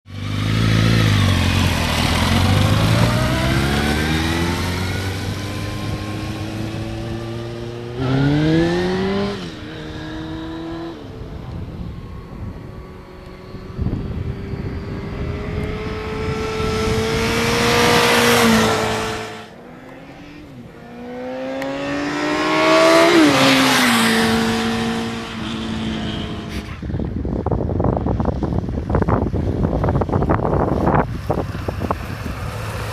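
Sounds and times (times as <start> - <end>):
motorcycle engine revving: 0.1 - 27.4
wind rushing: 0.9 - 32.9.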